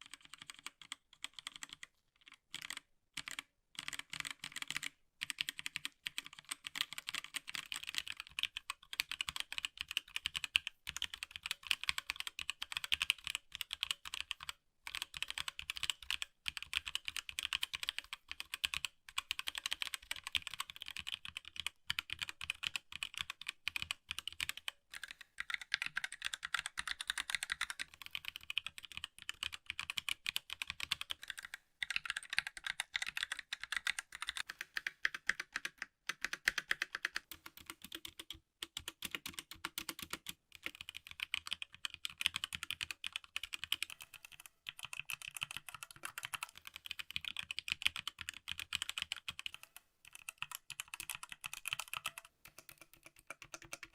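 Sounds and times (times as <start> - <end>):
mechanical keyboard typing: 0.0 - 53.9.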